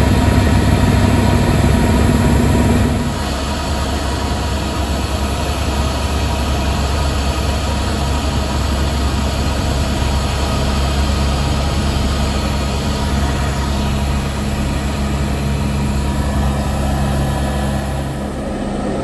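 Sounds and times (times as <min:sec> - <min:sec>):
helicopter turbine and rotor drone: 0:00.0 - 0:19.0.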